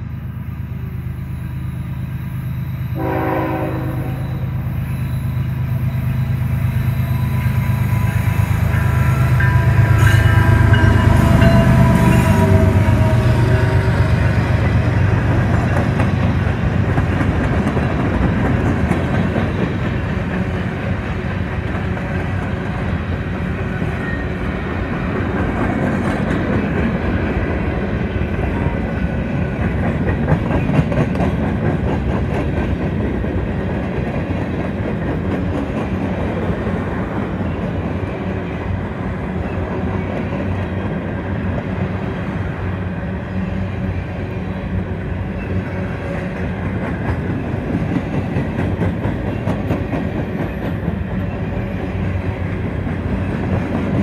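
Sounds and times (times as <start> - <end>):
diesel locomotive engine: 0.0 - 54.0
steel wheels rumbling on rail: 0.0 - 54.0
clickety-clack over rail joints: 7.4 - 42.9, 44.9 - 54.0.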